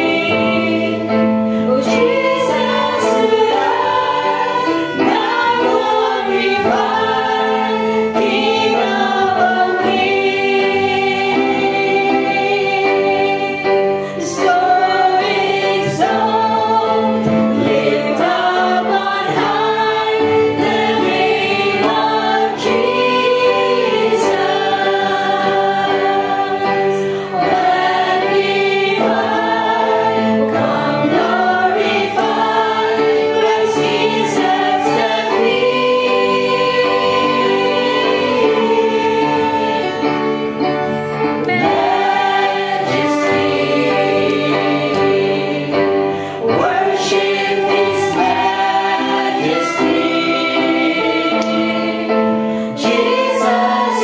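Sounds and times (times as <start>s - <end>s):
congregation singing: 0.0s - 54.0s
violin playing: 1.7s - 13.6s, 14.5s - 44.4s, 46.7s - 53.9s.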